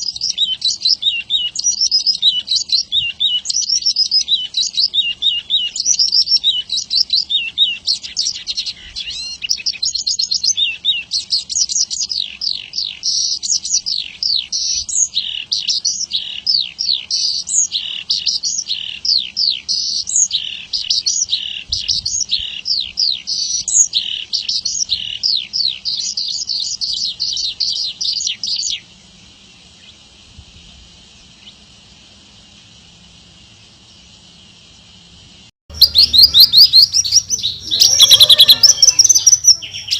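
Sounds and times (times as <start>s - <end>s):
bird singing: 0.0s - 30.0s, 35.7s - 39.9s
faint hiss: 0.0s - 35.8s.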